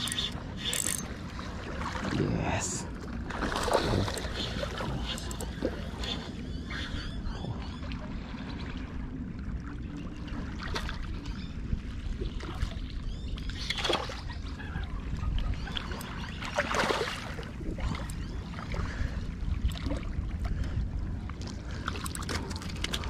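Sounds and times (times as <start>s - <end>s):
wind rumble on microphone: 3.6s - 23.0s.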